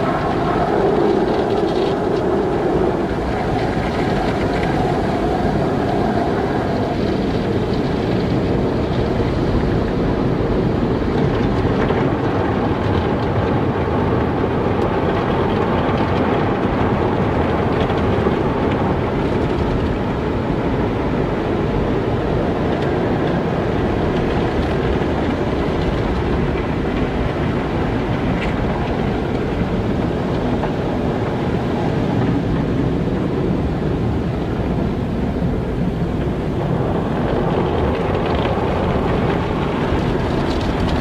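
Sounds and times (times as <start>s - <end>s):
car wash machinery rumble: 0.0s - 41.0s.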